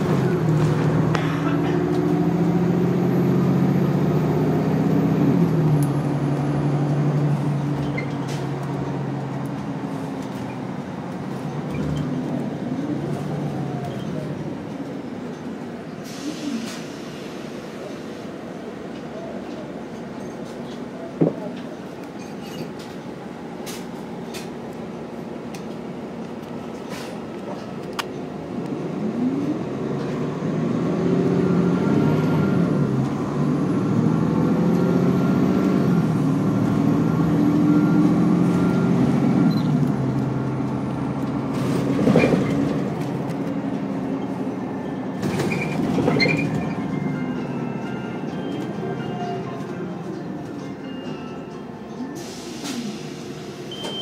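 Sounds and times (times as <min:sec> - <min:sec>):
bus engine accelerating: 0:00.0 - 0:54.0.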